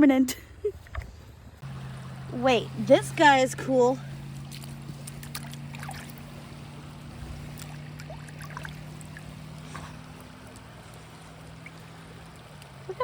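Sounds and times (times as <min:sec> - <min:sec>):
creek water trickling over rocks: 0:01.3 - 0:13.0.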